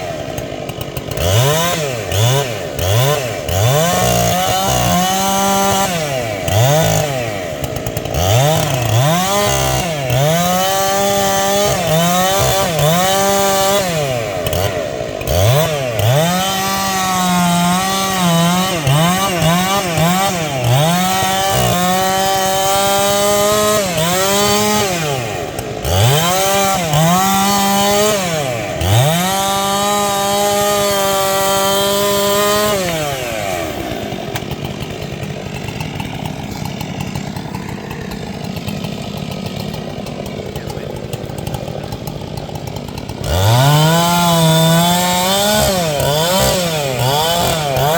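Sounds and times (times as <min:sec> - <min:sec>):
chainsaw cutting into tree: 0:00.0 - 0:47.9.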